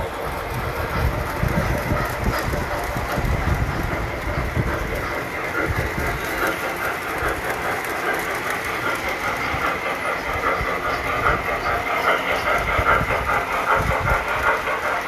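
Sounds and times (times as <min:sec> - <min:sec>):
model train rolling on metal track: 0:00.0 - 0:15.0
wheels clicking on rails: 0:00.0 - 0:15.0.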